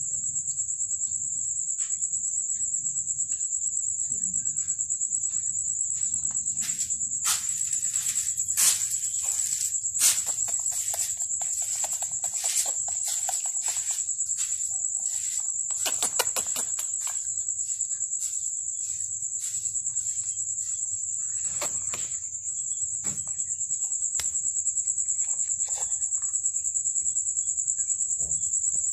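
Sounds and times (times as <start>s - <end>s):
crickets chirring: 0.0s - 28.9s.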